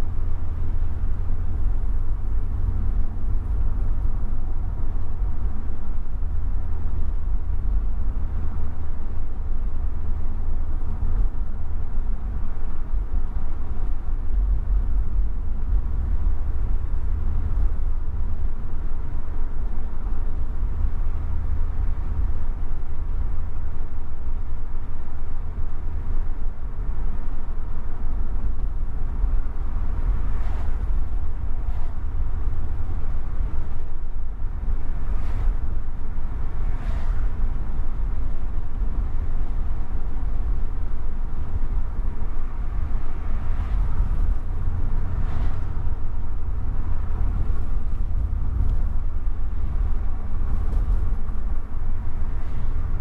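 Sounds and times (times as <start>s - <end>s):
engine and tyre rumble: 0.0s - 53.0s
passing traffic swishes: 0.0s - 53.0s.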